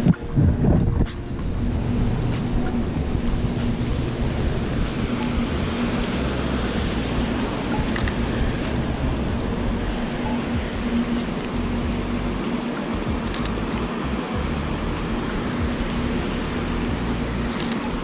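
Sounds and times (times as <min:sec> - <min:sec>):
steady rain on street: 0:00.0 - 0:18.0.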